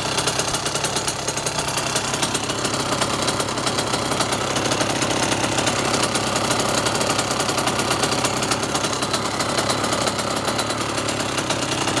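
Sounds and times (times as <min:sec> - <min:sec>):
two-stroke engine idling: 0:00.0 - 0:12.0.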